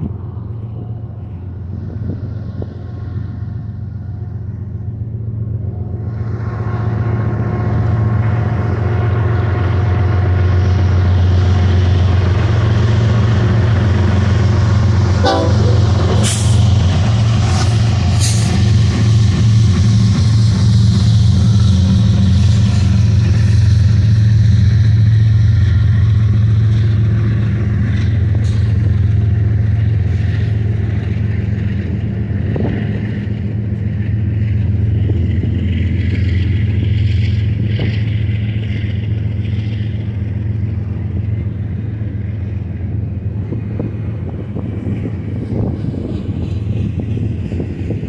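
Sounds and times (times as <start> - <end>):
diesel locomotive drone: 0.0 - 48.0
steel wheels rumbling on rail: 0.0 - 48.0.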